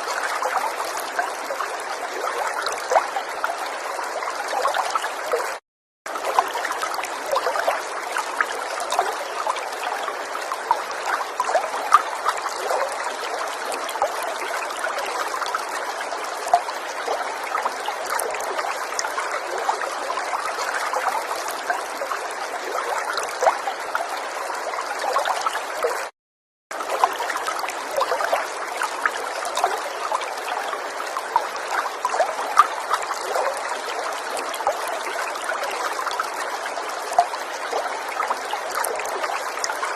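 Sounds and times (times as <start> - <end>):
river water babbling over stones: 0.0 - 26.1, 26.8 - 39.9.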